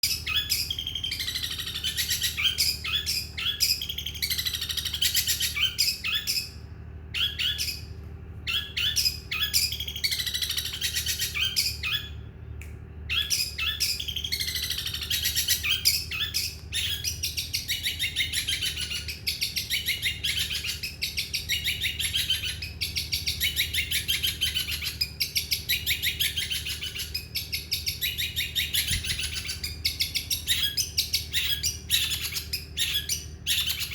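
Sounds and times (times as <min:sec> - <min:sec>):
bird singing high chirps and trills: 0:00.0 - 0:33.9
steady low hum: 0:00.0 - 0:33.9.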